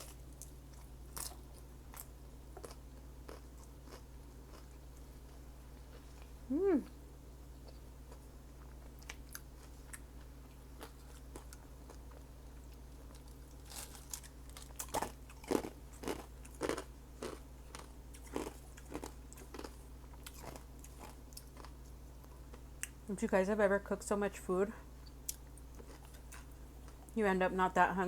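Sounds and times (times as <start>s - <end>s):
crunching chews: 0.0s - 6.4s, 7.6s - 23.0s, 25.0s - 27.2s
person chewing food: 0.0s - 6.4s, 7.6s - 23.0s, 25.0s - 27.2s.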